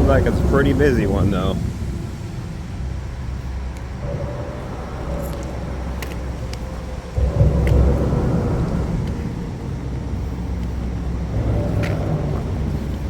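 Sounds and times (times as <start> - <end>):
highway traffic noise: 0.0 - 13.0
vehicle passing by: 0.0 - 13.0.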